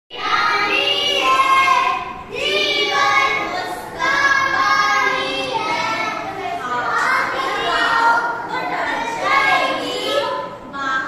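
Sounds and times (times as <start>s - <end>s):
children singing in unison: 0.1s - 10.6s.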